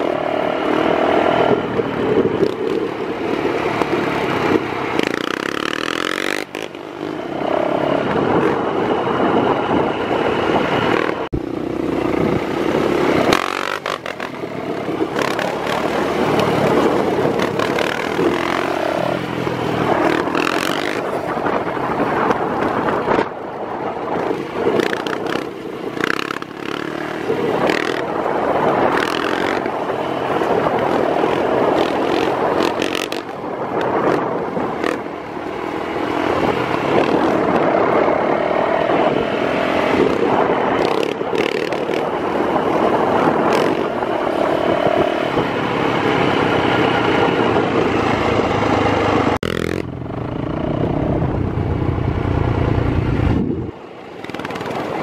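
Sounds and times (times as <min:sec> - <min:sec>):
dirt bike and quad engines revving: 0:00.0 - 0:55.0.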